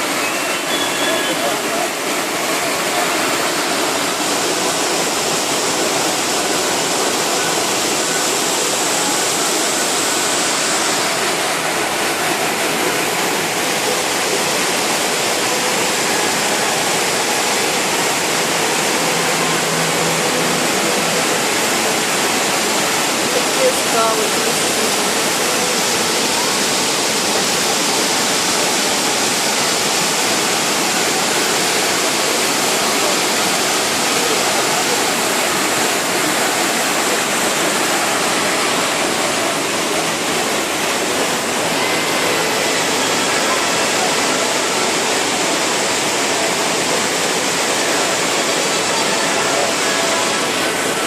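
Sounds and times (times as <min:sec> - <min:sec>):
waterfall pouring over rocks: 0:00.0 - 0:51.0.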